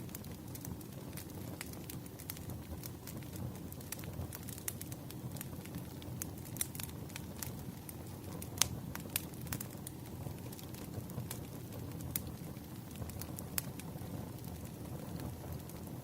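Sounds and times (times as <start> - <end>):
logs crackling and popping: 0.0 - 16.0
wood fire burning: 0.0 - 16.0.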